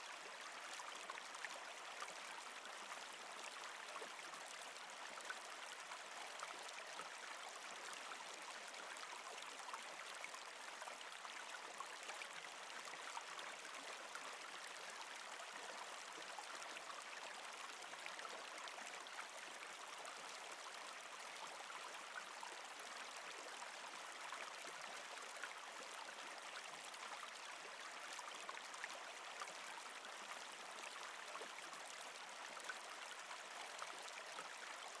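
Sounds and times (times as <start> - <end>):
flowing stream: 0.0 - 35.0.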